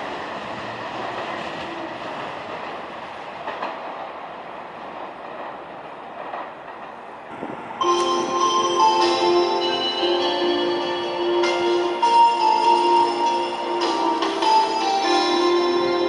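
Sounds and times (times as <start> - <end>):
train wheels clacking on rails: 0.0 - 16.0.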